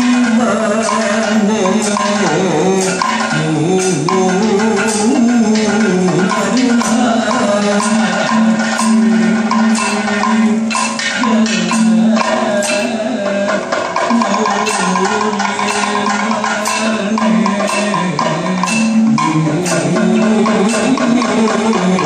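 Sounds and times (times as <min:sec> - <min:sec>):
barrel drum playing steady rhythm: 0:00.0 - 0:22.0
person singing with wavering voice: 0:00.0 - 0:22.0.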